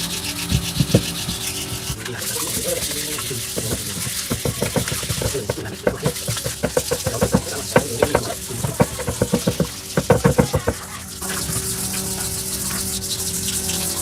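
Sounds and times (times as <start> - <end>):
rapid clicking and knocking: 0.0 - 11.7
steady scraping: 0.0 - 14.0.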